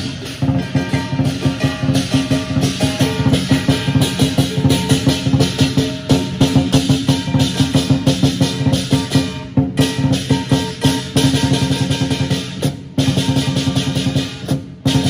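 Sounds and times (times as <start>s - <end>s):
cymbals: 0.0s - 15.0s
drum beating rapid strokes: 0.0s - 15.0s
gong ringing: 0.0s - 15.0s.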